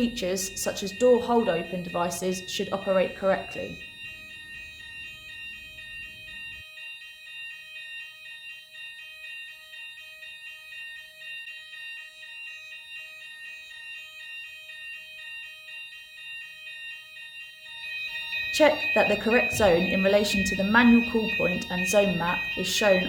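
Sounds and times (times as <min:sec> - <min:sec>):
electronic fire alarm tones: 0:00.0 - 0:23.0.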